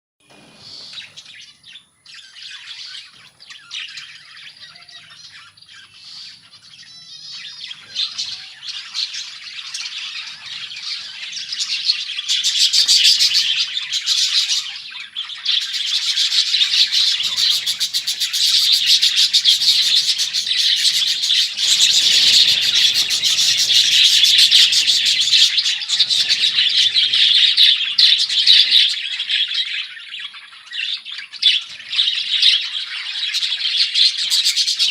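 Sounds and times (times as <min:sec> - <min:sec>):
budgerigars chirping and warbling: 0:00.3 - 0:34.9.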